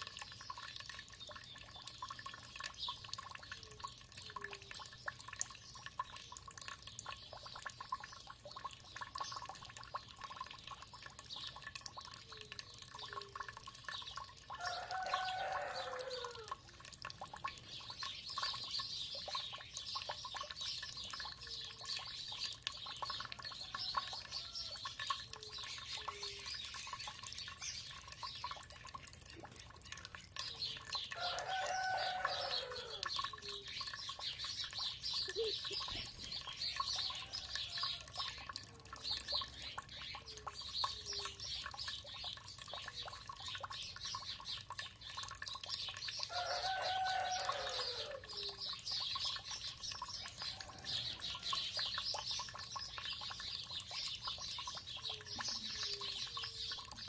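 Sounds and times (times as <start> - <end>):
running water: 0.0 - 57.0
songbirds chirping and trilling: 0.0 - 57.0.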